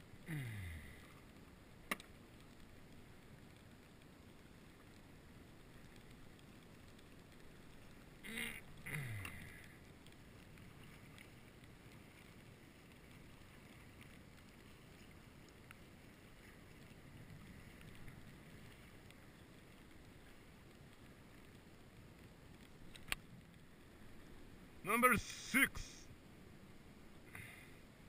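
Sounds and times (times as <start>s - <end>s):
hiss of wind and water: 0.0s - 28.0s.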